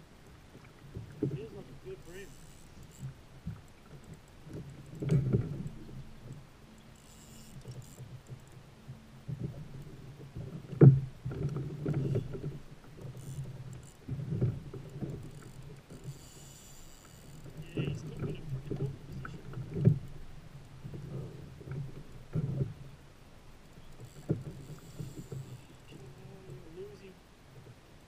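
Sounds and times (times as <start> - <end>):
kayak rumbling and soft bumps: 0.0 - 28.0.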